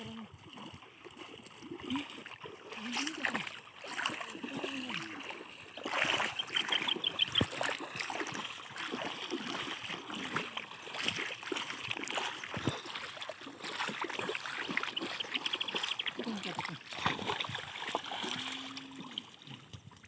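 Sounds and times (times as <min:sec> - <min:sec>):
river water splashing: 0:00.0 - 0:20.0.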